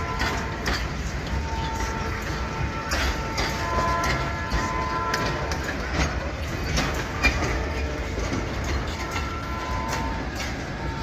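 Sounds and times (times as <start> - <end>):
freight train rumble: 0.0 - 11.0
metallic wheel squeals: 0.0 - 11.0
wheels clicking over rail joints: 0.0 - 11.0.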